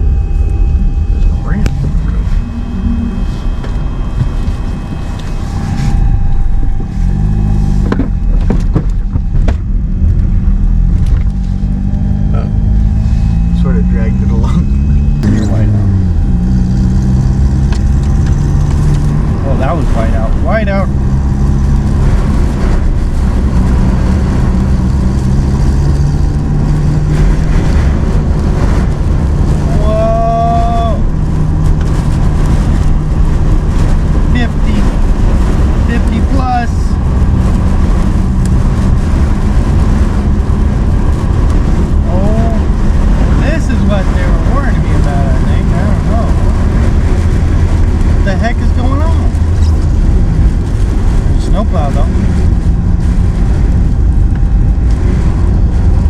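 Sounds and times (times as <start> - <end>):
engine and tyres rumbling: 0.0 - 56.0.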